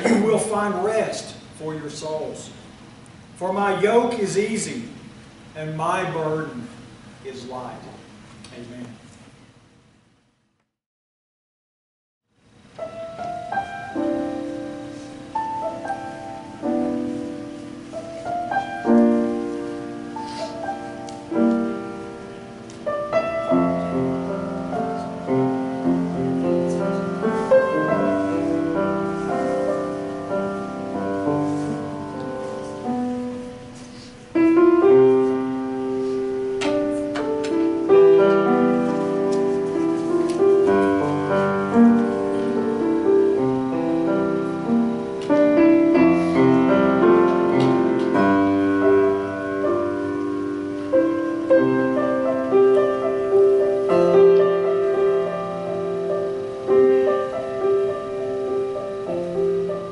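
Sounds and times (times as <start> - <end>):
slow piano piece: 0.0 - 9.7, 12.4 - 59.9.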